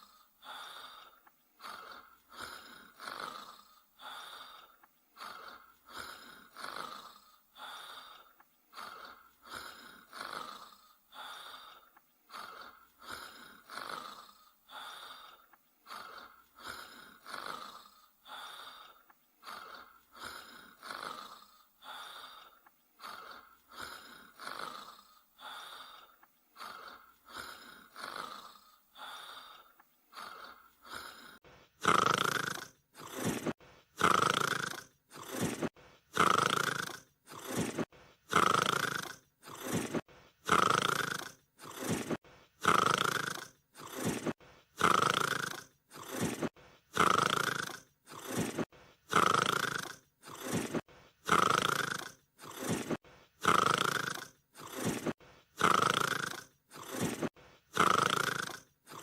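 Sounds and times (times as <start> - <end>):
dog snoring softly: 0.0 - 59.0.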